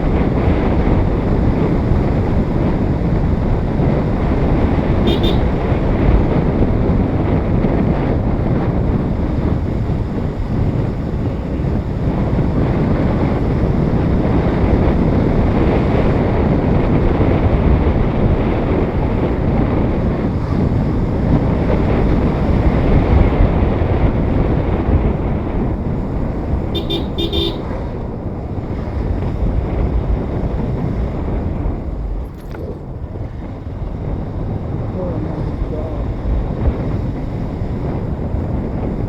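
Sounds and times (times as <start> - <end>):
motorcycle running: 0.0 - 39.0
wind buffeting microphone: 0.0 - 39.0.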